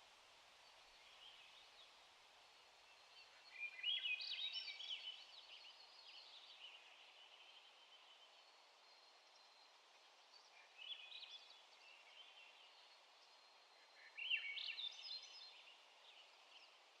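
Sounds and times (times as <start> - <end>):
songbird singing: 2.8 - 16.9.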